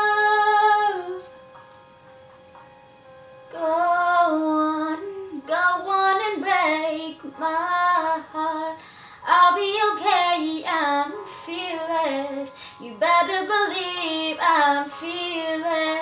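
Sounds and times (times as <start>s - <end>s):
girl singing a pop ballad: 0.0s - 1.4s, 3.5s - 16.0s.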